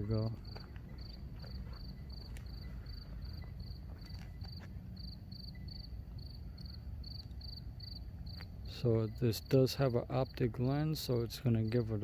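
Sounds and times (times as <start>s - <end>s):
cricket chirping: 0.0s - 12.0s
low background rumble: 0.0s - 12.0s.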